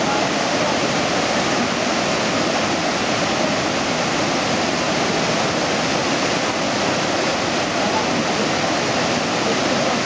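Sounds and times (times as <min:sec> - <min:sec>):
water rushing over spillway: 0:00.0 - 0:10.0.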